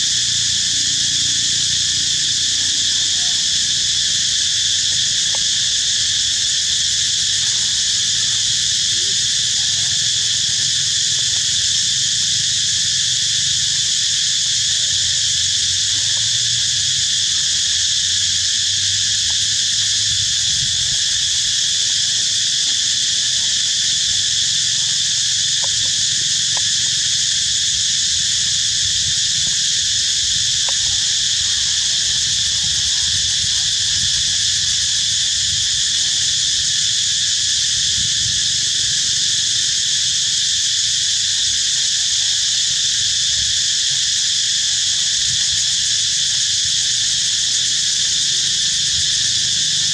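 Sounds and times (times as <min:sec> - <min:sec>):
insect chorus buzzing: 0:00.0 - 0:49.9.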